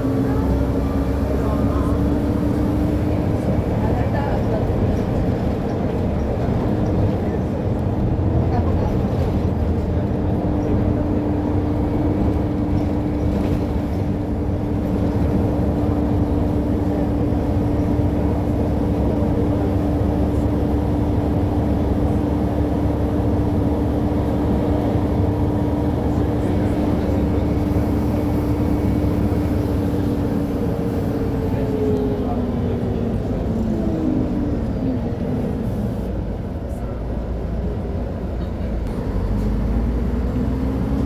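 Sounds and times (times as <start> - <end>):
bus engine running: 0.0 - 41.0
engine whine: 0.0 - 41.0.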